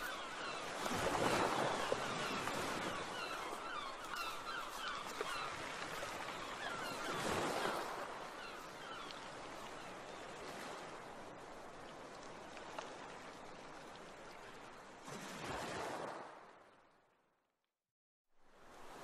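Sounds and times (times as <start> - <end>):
rushing water: 0.0 - 16.6.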